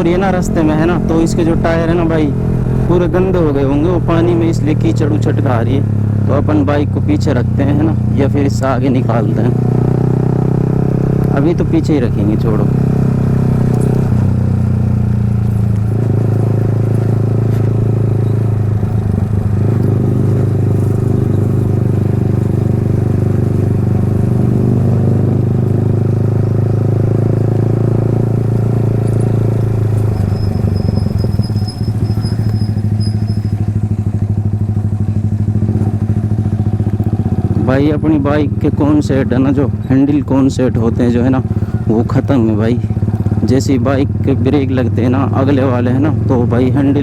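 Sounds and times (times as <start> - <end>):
motorcycle engine cruising: 0.0 - 47.0.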